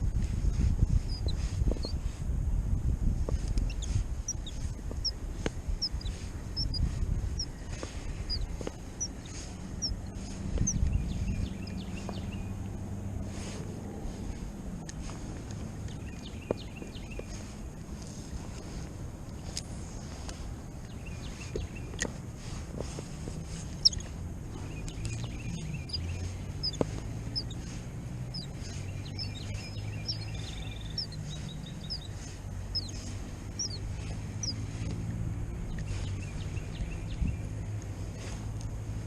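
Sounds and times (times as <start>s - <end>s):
low wind rumble: 0.0s - 39.0s
songbirds chirping: 0.0s - 39.0s.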